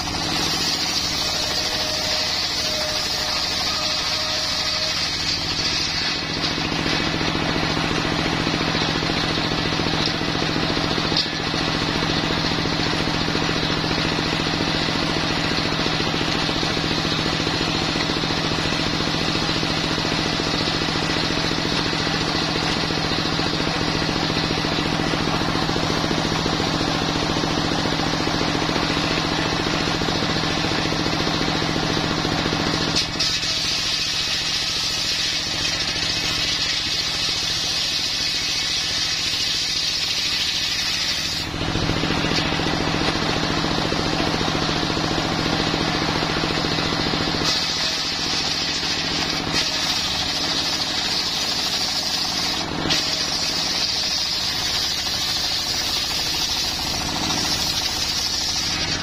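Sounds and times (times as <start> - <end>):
saw blade spinning: 0.0 - 45.4, 46.6 - 59.0
circular saw cutting log: 0.0 - 59.0
diesel engine running: 0.0 - 59.0.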